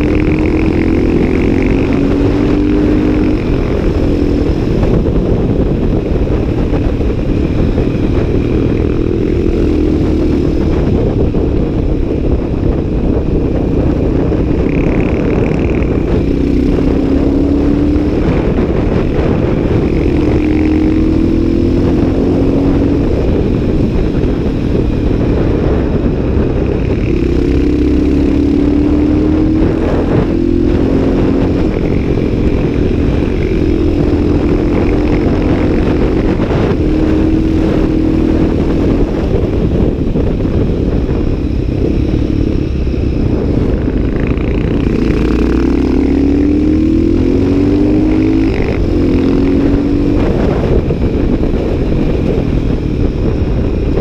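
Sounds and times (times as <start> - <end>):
motorcycle engine revving: 0.0 - 54.0
wind rumble on microphone: 0.0 - 54.0.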